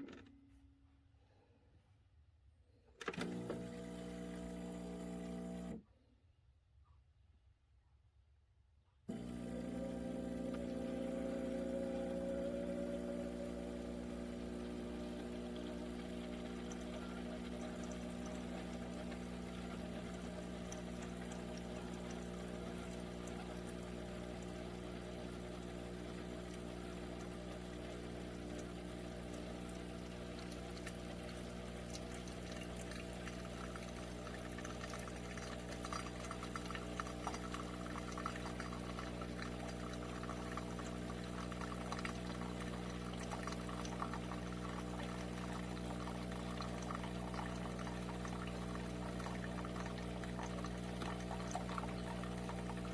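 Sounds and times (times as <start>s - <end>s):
coffee maker pump humming: 3.0s - 5.8s, 9.1s - 52.9s
liquid streaming into cup: 3.2s - 5.8s, 9.1s - 52.9s.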